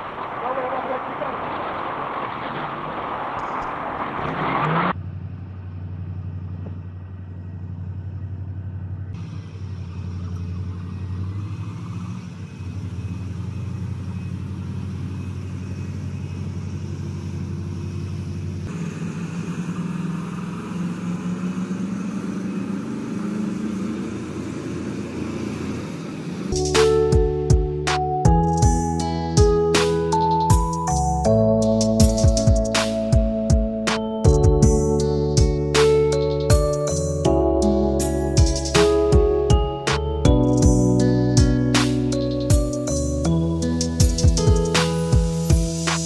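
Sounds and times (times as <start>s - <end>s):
diesel truck engine droning: 0.0s - 46.0s.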